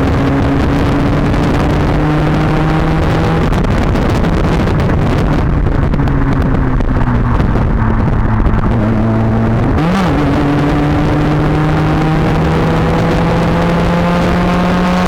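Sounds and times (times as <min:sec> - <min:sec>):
car engine droning through exhaust: 0:00.0 - 0:15.0.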